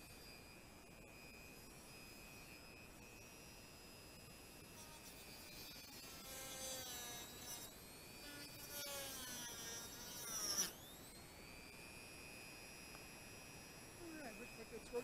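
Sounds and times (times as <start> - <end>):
rotary tool whining: 0.0 - 15.0.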